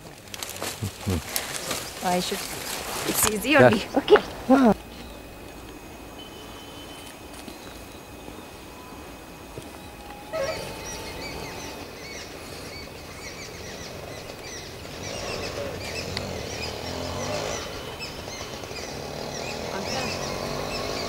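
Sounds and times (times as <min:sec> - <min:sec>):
small birds chirping: 0:00.4 - 0:21.0.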